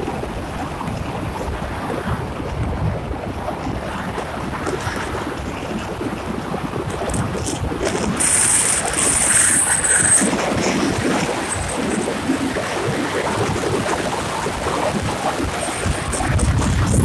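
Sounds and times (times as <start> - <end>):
low road rumble: 0.0 - 17.0
wind buffeting microphone: 0.0 - 17.0.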